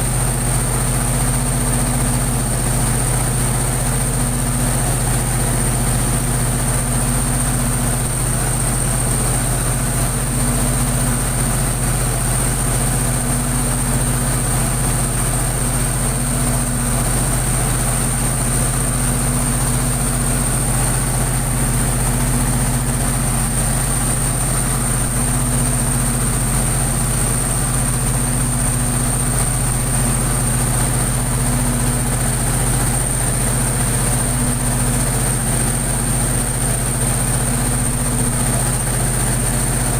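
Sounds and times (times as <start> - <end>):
diesel generator hum: 0.0 - 39.9.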